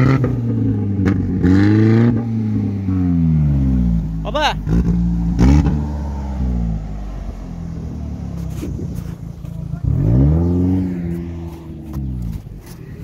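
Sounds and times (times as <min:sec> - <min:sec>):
car engine revving hard: 0:00.0 - 0:12.4.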